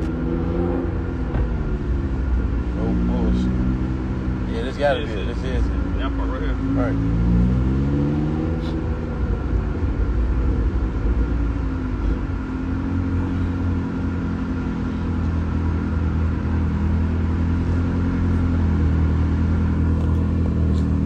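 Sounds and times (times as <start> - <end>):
car engine: 0.0 - 21.0
road rumble: 0.0 - 21.0.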